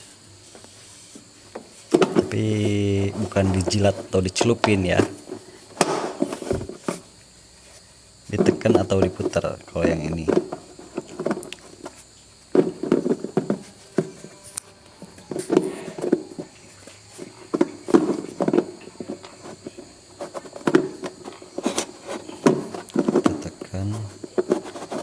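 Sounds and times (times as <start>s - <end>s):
knocks and clicks of handling parts: 1.5s - 7.1s, 8.3s - 25.0s.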